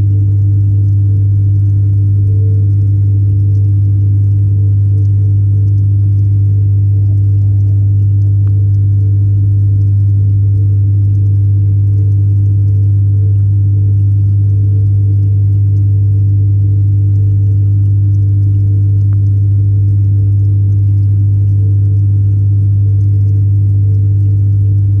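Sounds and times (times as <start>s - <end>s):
tank pump humming underwater: 0.0s - 25.0s.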